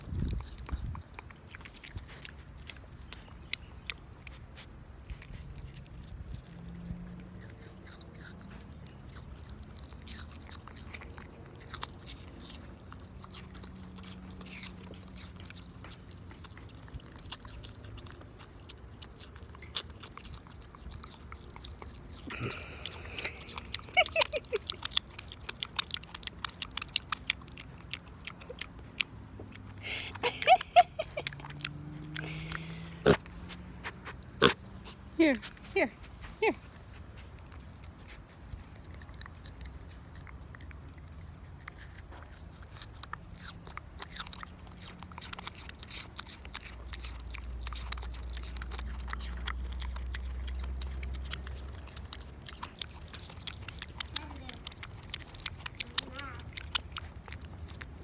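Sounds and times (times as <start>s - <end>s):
pig crunching an apple: 0.0s - 58.0s.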